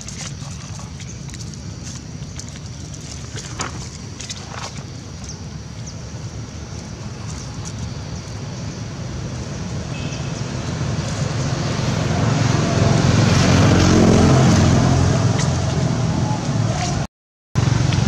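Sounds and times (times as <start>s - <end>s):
vehicle approaching: 0.3s - 18.0s.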